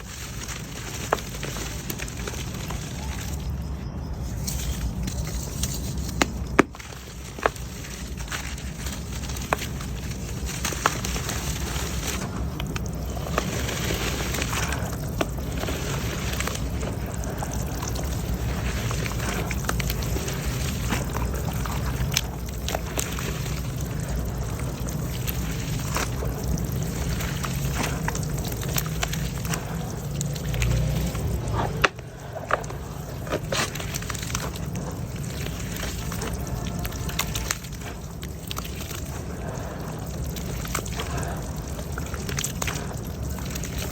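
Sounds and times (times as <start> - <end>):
mud crumbling into water: 0.0 - 43.9.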